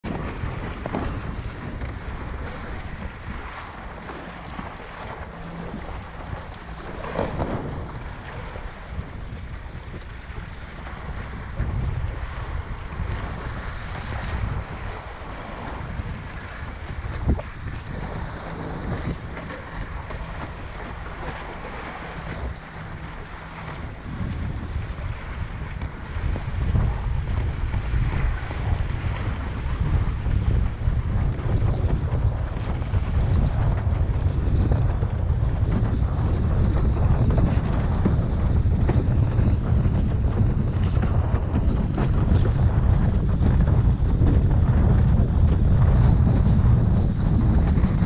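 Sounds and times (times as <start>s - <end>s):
low rumble: 0.0s - 48.0s
water rushing against board: 0.0s - 48.0s
wind buffeting microphone: 0.0s - 48.0s.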